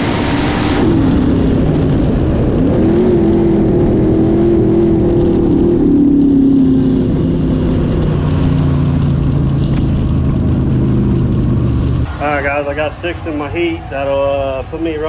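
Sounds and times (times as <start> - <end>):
race car engine slowing: 0.6 - 15.0.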